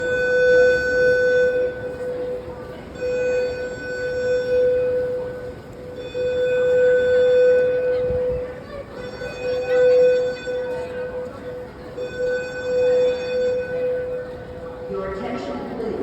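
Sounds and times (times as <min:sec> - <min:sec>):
fire alarm horns: 0:00.0 - 0:16.0.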